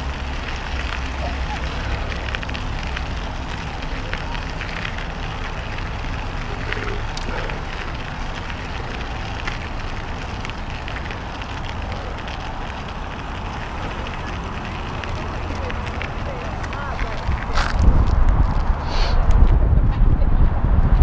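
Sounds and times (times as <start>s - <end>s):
tyres crunching over gravel: 0.0s - 19.6s
wind rumbling on microphone: 0.0s - 21.0s.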